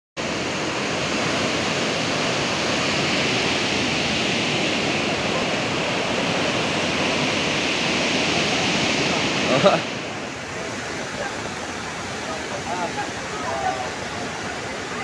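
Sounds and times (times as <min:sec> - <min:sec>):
rushing floodwater: 0:00.2 - 0:15.0.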